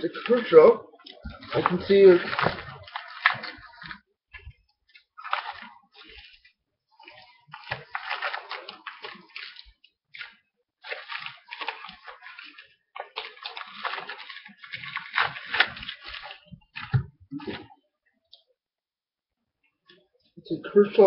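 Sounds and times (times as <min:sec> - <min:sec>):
plastic packaging crinkling: 0:00.0 - 0:17.8.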